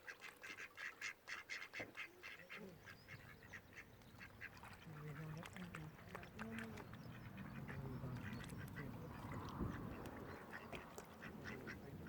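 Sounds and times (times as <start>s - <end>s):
ducks quacking: 0.1s - 12.0s.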